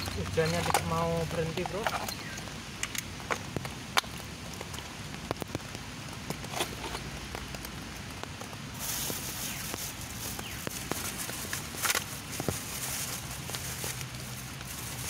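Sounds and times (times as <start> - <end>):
light rain hissing: 0.0 - 15.0
raindrops ticking: 0.0 - 15.0.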